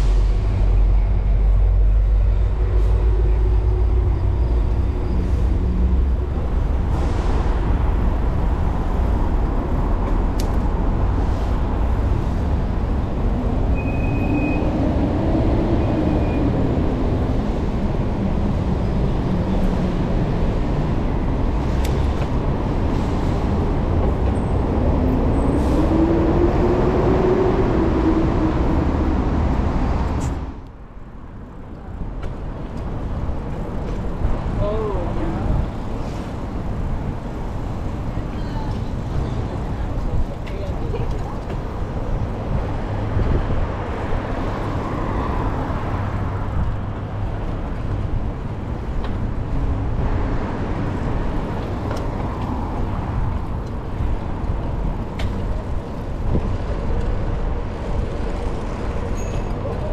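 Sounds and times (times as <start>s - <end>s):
heavy vehicles passing: 0.0s - 59.9s
road traffic rumble: 0.0s - 59.9s.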